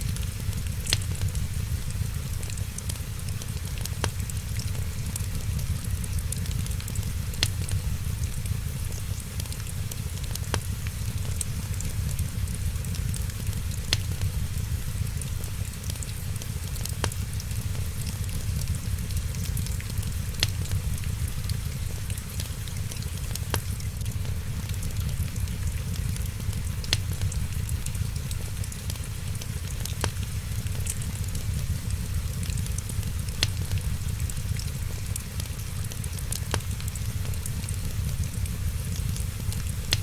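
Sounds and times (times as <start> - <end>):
wood fire crackling: 0.0 - 40.0
sharp pops from fire: 0.1 - 40.0.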